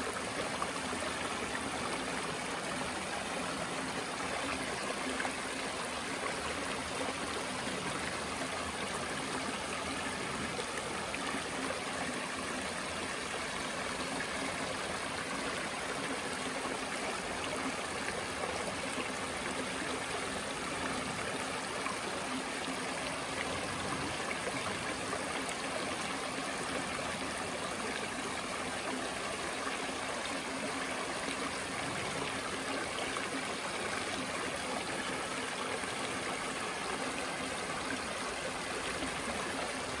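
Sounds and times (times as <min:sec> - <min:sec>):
creek water rushing over stones: 0:00.0 - 0:40.0.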